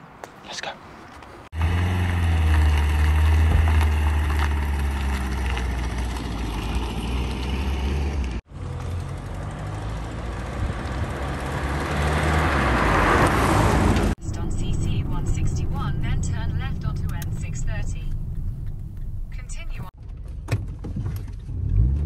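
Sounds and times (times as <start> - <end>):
car passing with road noise: 1.3 - 19.3
car engine humming: 1.6 - 19.9.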